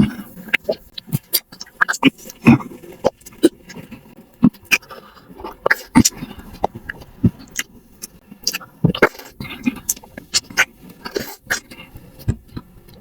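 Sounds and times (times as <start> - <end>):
person chewing with mouth clicks: 0.0 - 13.0.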